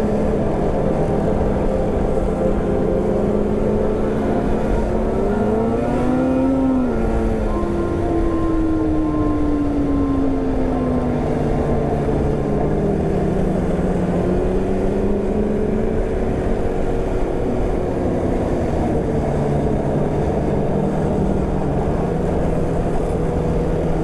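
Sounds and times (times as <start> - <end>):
rumble of track and wind: 0.0 - 24.0
snowmobile engine running: 0.0 - 24.0.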